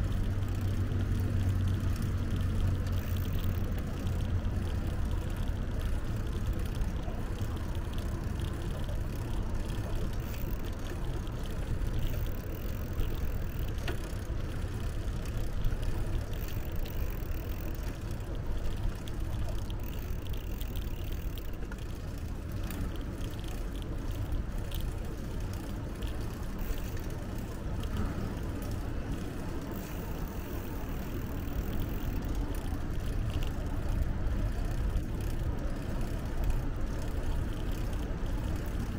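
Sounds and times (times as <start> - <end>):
bicycle rolling rumble: 0.0 - 38.9
small clicks and rattles: 0.0 - 38.9.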